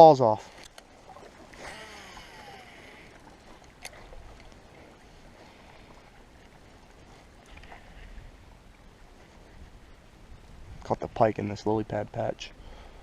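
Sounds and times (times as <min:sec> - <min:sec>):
canoe on still water: 0:00.0 - 0:13.0.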